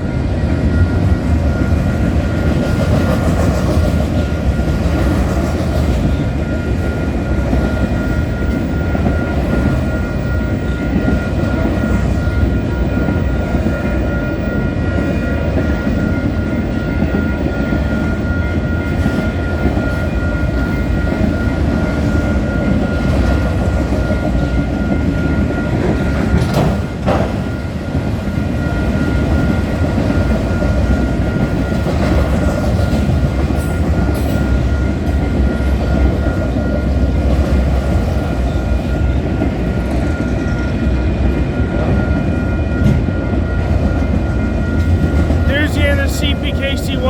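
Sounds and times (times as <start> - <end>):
level-crossing bell ringing: 0.0 - 47.0
steel wheels rumbling on rails: 0.0 - 47.0.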